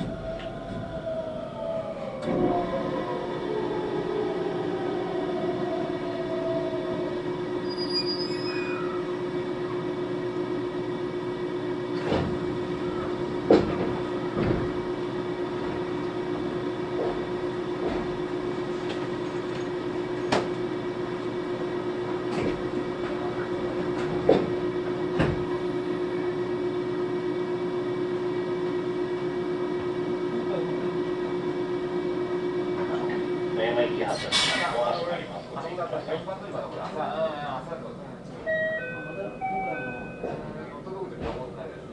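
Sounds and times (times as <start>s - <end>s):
electrical hum of train equipment: 0.0s - 41.9s.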